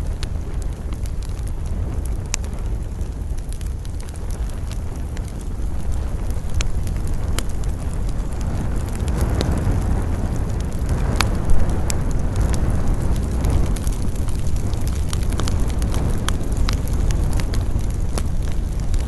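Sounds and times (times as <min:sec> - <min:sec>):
campfire crackling and popping: 0:00.0 - 0:19.0
low wind rumble: 0:00.0 - 0:19.0.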